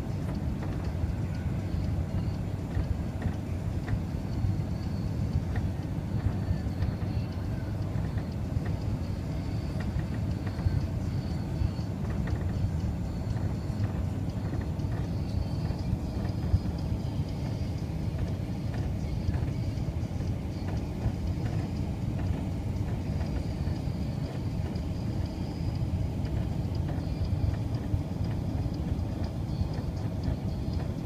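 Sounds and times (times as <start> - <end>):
aircraft cabin engine rumble: 0.0 - 31.0
faint high whine: 0.0 - 31.0.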